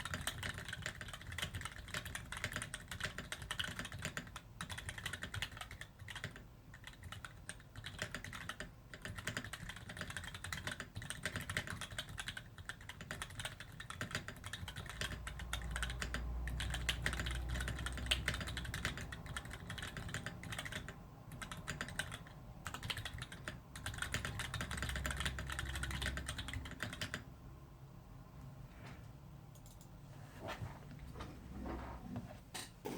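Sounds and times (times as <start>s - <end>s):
mechanical keyboard typing: 0.0s - 27.3s, 29.5s - 29.9s.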